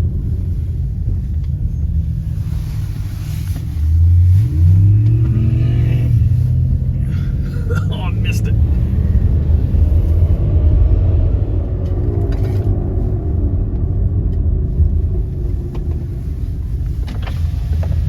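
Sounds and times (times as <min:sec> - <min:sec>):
low vehicle engine rumble: 0:00.0 - 0:18.0.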